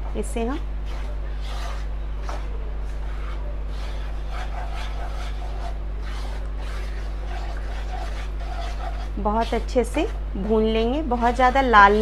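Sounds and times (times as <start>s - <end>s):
wooden spatula scraping pan: 0.8s - 12.0s.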